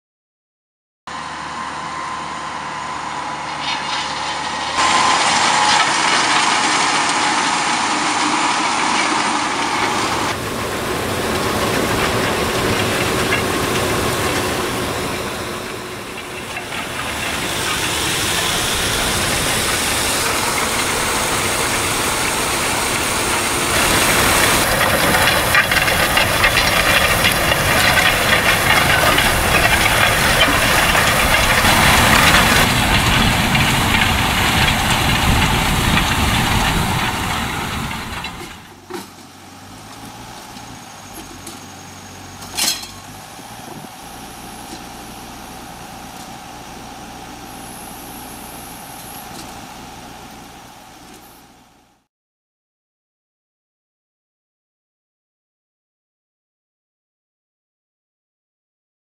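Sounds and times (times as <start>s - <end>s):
tractor engine and machinery: 1.1s - 52.1s.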